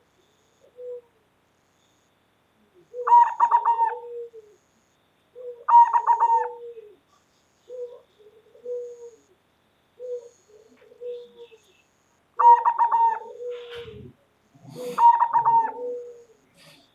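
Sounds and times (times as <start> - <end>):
dove cooing: 0.0 - 1.3, 2.6 - 9.4, 10.0 - 11.8, 12.4 - 16.9.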